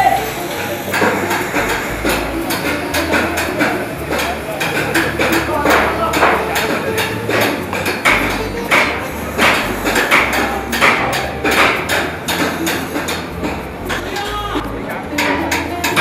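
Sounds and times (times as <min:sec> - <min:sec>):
hammer blows: 0:00.0 - 0:16.0.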